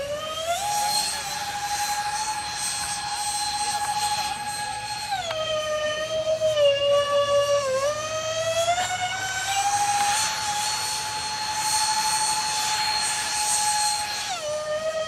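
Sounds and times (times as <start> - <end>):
model jet fan motors whining: 0.0 - 15.0.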